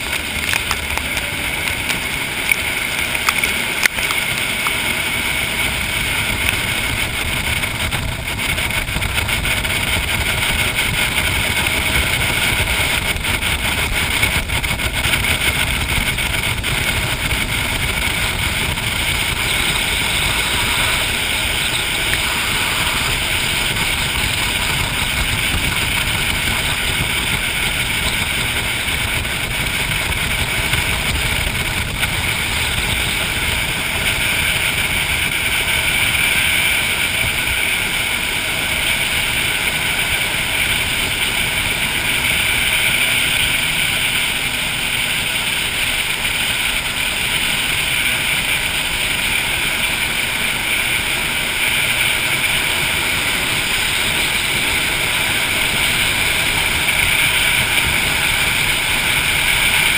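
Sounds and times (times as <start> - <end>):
boat engine drone: 0.0 - 59.9
water rushing along hull: 0.0 - 59.9.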